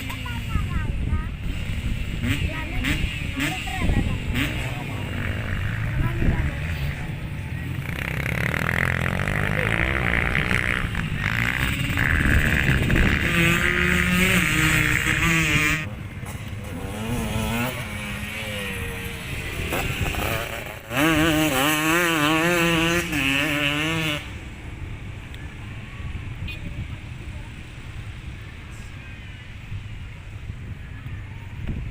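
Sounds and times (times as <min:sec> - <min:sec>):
motorcycle engines revving: 0:00.0 - 0:31.9.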